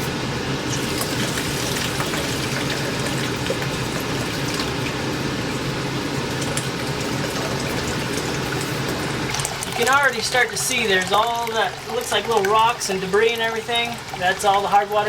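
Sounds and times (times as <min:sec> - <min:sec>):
water gushing from drain valve: 0:00.2 - 0:15.0.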